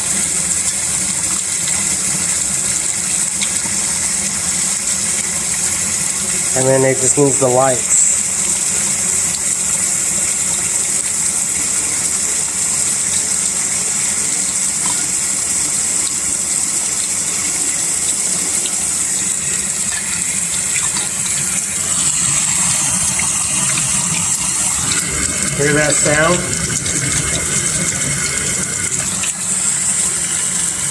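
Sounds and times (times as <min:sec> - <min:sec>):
water jets gushing into water: 0:00.0 - 0:30.9.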